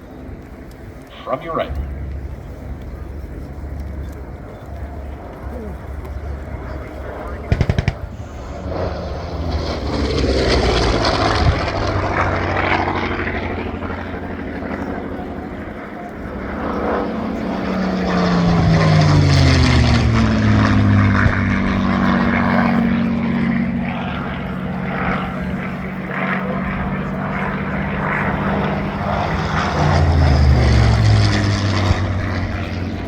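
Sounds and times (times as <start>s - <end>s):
propeller planes flying past: 0.0s - 33.0s.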